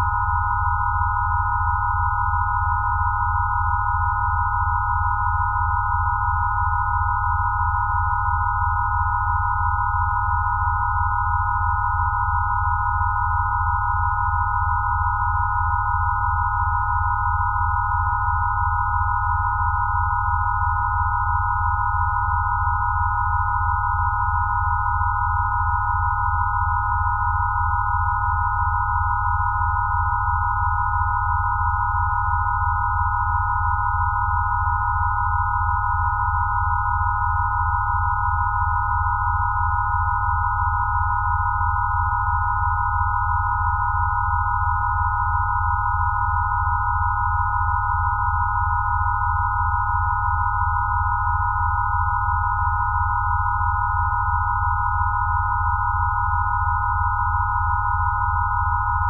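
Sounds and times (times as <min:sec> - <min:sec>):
pure sine tones: 0:00.0 - 0:59.0.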